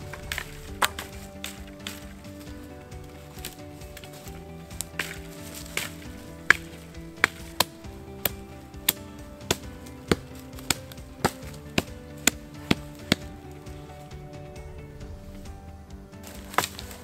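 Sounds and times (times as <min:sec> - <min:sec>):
axe chopping twigs: 0:00.0 - 0:14.2, 0:16.2 - 0:17.0
background music: 0:00.0 - 0:17.0.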